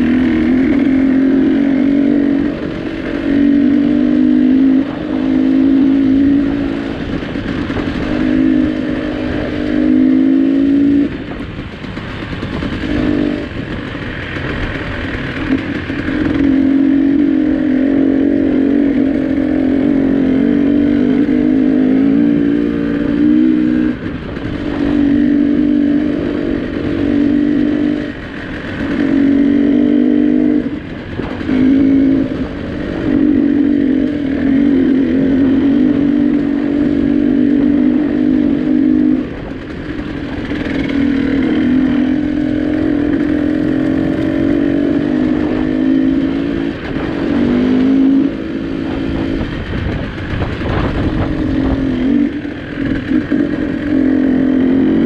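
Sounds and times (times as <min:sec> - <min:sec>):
vehicle engine changing gears: 0:00.0 - 0:55.0.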